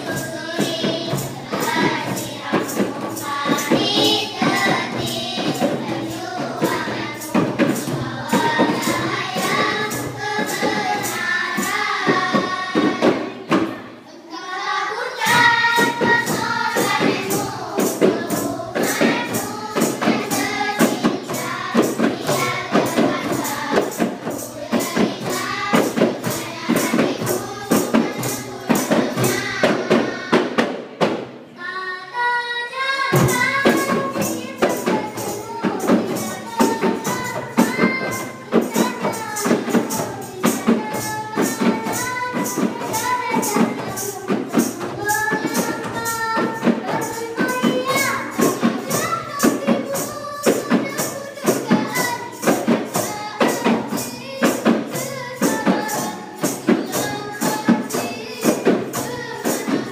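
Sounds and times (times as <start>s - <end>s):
hand percussion beat: 0.0s - 14.0s, 14.9s - 31.6s, 33.1s - 59.9s
girls singing in chorus: 0.0s - 59.9s.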